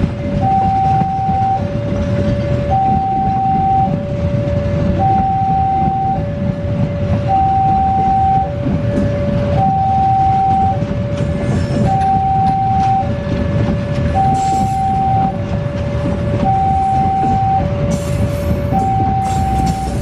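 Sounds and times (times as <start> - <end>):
passing train rumble: 0.0 - 20.0
two-tone crossing alarm: 0.2 - 11.2, 11.8 - 13.4, 14.0 - 15.5, 16.3 - 20.0.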